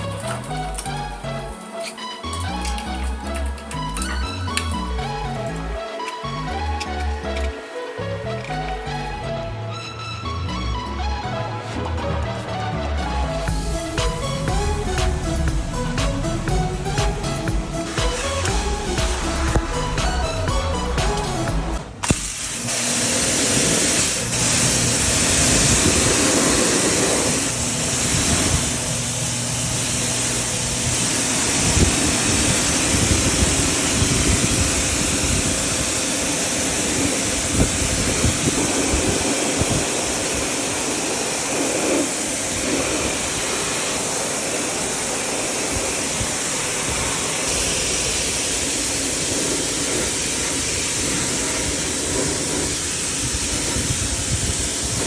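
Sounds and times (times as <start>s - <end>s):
water spraying: 0.0s - 55.0s
pump rumbling: 2.4s - 55.0s.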